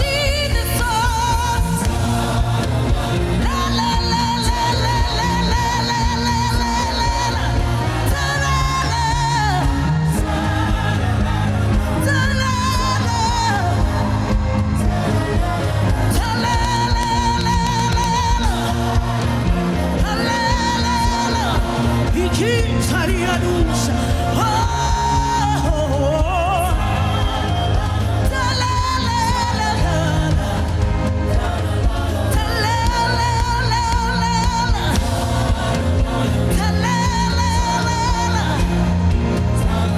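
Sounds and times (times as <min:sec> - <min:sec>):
gospel music accompaniment: 0:00.0 - 0:39.9
solo voice singing: 0:00.0 - 0:39.9.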